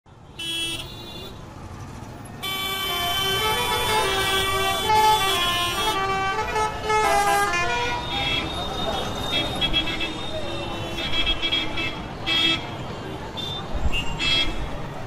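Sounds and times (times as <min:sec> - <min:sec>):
road traffic: 0:00.0 - 0:15.0
vehicle horns honking: 0:00.3 - 0:01.4, 0:02.4 - 0:14.7.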